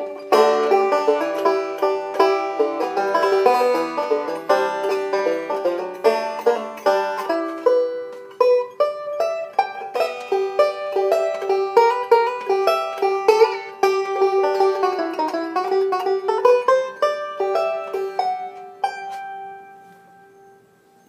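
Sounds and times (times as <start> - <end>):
fingerpicked banjo: 0.0 - 20.4.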